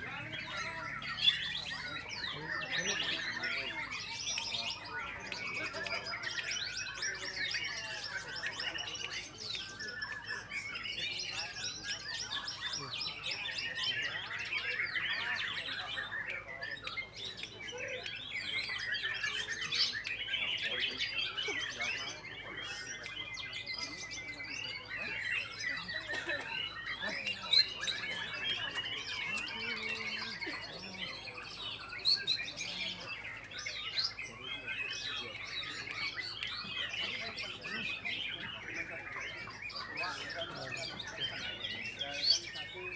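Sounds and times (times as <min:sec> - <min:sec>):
birds singing rapid whistles: 0:00.0 - 0:42.9
sharp loud bird notes: 0:00.0 - 0:42.9.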